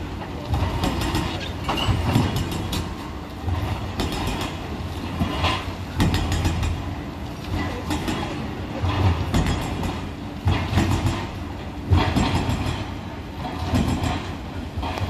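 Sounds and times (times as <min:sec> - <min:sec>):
diesel engine running: 0:00.0 - 0:15.0
excavator breaking concrete: 0:00.2 - 0:15.0.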